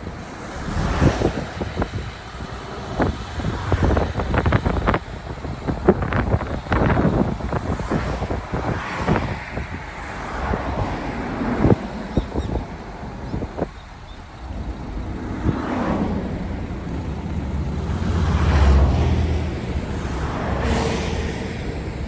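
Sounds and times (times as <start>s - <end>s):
traffic noise: 0.0s - 22.0s
wind on microphone: 0.0s - 22.0s.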